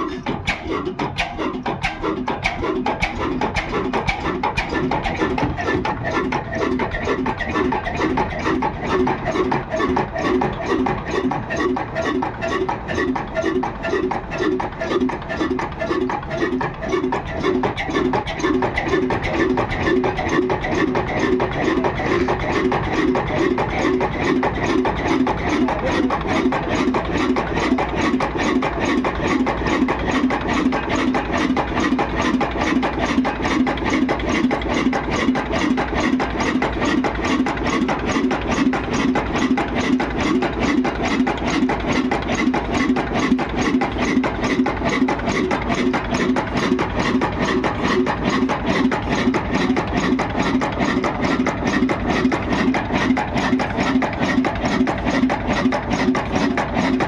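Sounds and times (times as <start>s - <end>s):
stationary diesel engine running: 0.0s - 57.0s.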